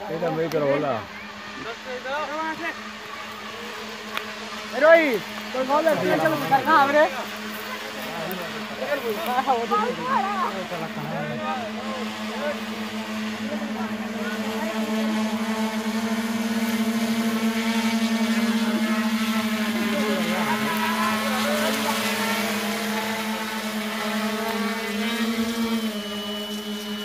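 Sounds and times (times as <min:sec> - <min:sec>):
drone motors and propellers humming: 0:00.0 - 0:27.0.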